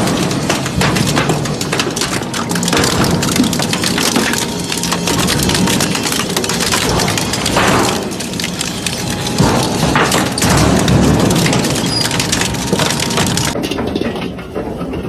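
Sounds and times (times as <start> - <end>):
machine low hum: 0.0 - 13.6
metal shredder crunching scrap: 0.0 - 15.0.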